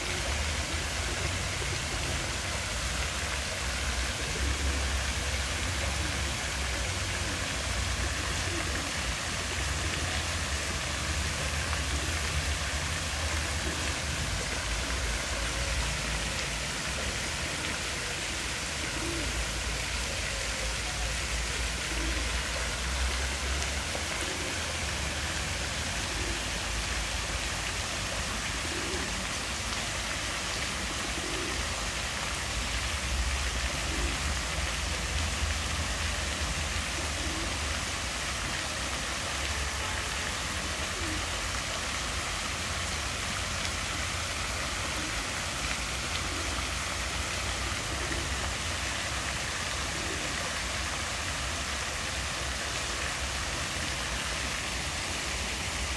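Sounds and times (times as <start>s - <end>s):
fountain jets splashing into pool: 0.0s - 55.9s.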